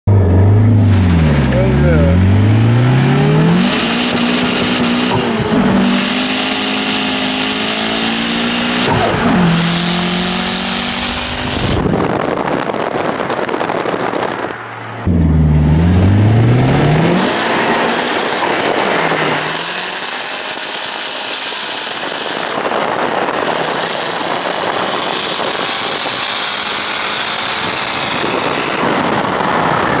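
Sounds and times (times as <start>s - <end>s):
car engine accelerating: 0.0s - 30.0s
wind and road noise: 0.1s - 30.0s.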